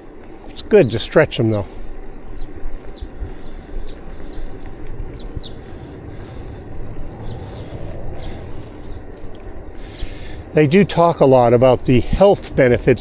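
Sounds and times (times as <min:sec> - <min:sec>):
bicycle road noise: 0:00.0 - 0:13.0
wind rumbling on microphone: 0:00.0 - 0:13.0.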